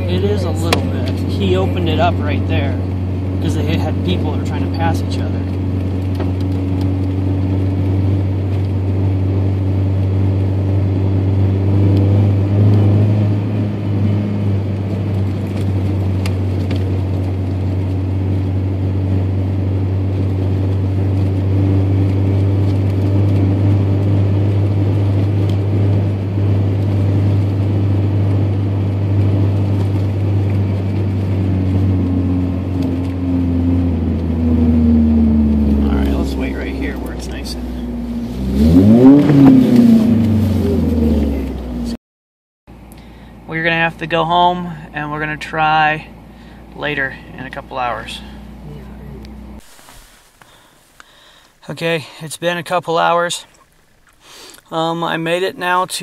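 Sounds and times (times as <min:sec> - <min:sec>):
pickup engine drone: 0:00.0 - 0:42.0, 0:42.7 - 0:56.0.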